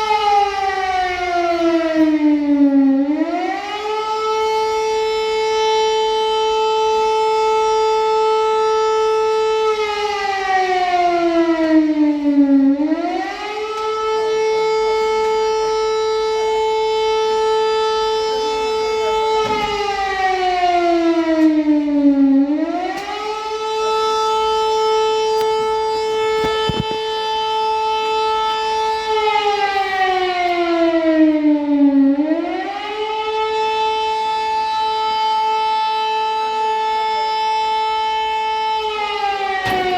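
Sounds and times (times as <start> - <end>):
civil defence siren wailing: 0.0 - 39.9.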